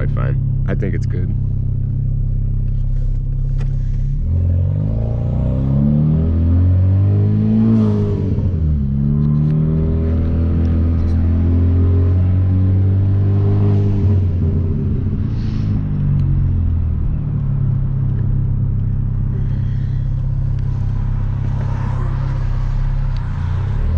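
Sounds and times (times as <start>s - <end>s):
car engine and exhaust driving: 0.0s - 23.9s.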